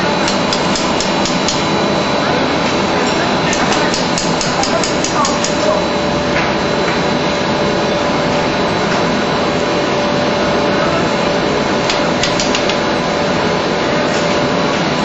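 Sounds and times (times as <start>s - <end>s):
industrial machine running: 0.0s - 15.0s.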